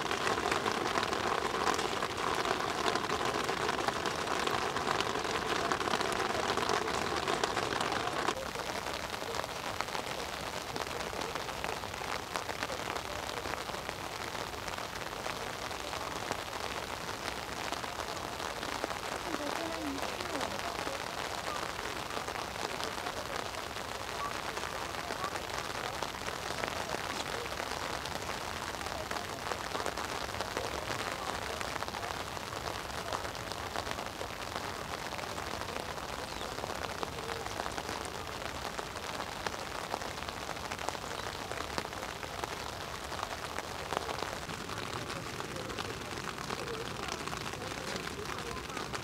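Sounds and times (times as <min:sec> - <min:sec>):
steady rain patter: 0:00.0 - 0:49.0.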